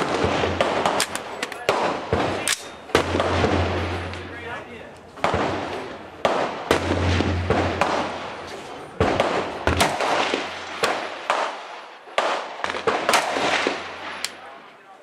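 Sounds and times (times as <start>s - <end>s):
gunshots with echo: 0.0s - 4.5s, 5.2s - 14.4s.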